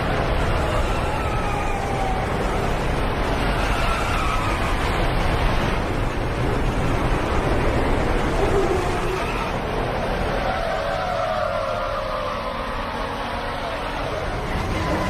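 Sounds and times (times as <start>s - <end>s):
racing truck diesel engines: 0.0s - 15.0s.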